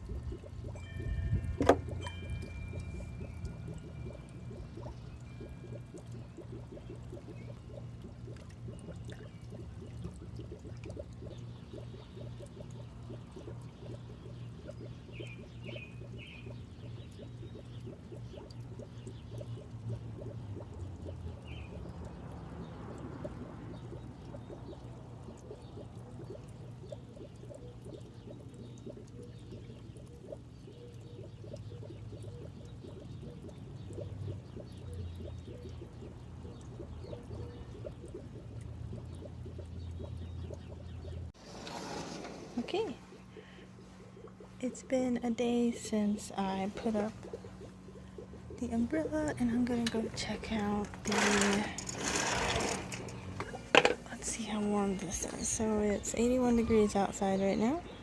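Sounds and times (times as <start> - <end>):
low steady rumble: 0.0 - 58.0
water bubbling and trickling: 0.0 - 58.0.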